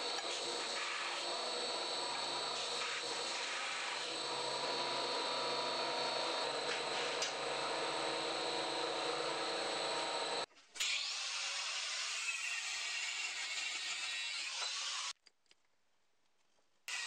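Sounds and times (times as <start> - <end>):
belt grinder whining: 0.0 - 15.2.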